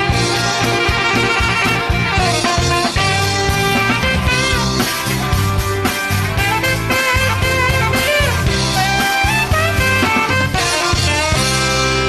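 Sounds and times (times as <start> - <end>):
band music with guitar and bass: 0.0 - 12.0
saxophone playing tune: 0.0 - 12.0.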